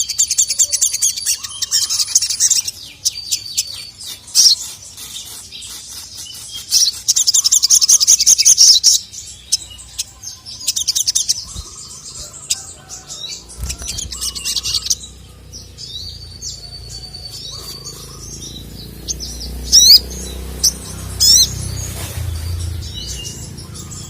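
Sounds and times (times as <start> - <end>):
bird chirping and trilling: 0.0 - 24.0.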